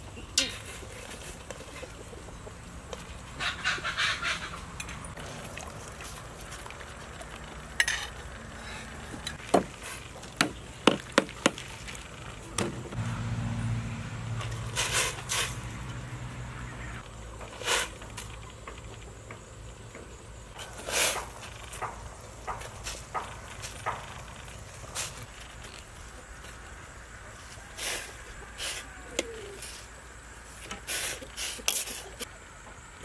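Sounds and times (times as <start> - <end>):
rustling and water splashing: 0.0 - 32.9.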